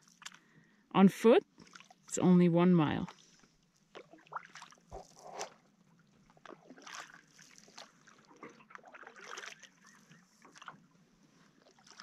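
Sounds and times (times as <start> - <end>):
canoe paddle splashing: 1.5 - 2.2, 3.0 - 12.0.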